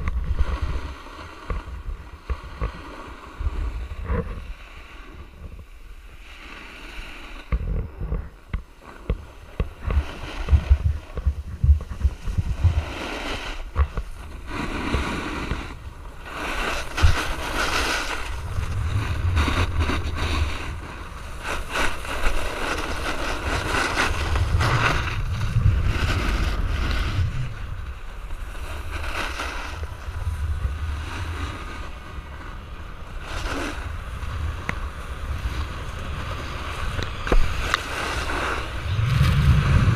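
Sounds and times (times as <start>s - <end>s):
skis scraping on snow: 0.0s - 5.4s, 6.1s - 39.9s
wind buffeting microphone: 0.0s - 39.9s.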